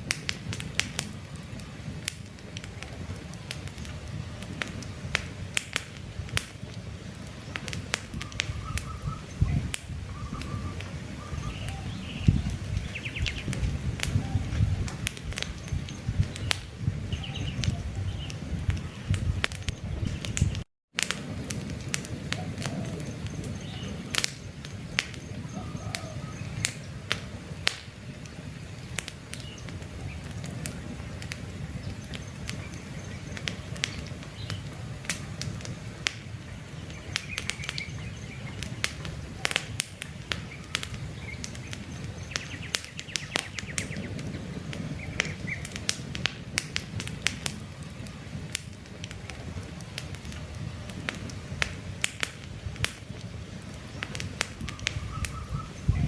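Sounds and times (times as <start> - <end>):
campfire crackling and popping: 0.0 - 56.0
low rumble of burning: 0.0 - 56.0
birds chirping: 6.6 - 20.6, 22.2 - 46.0, 46.9 - 51.4, 53.0 - 56.0.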